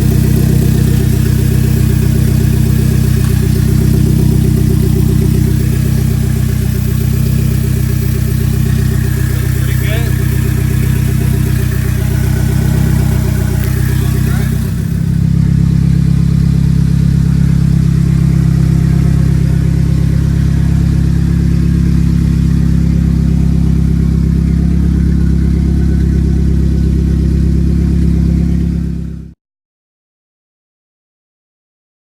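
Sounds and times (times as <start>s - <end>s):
car engine running: 0.0s - 29.4s.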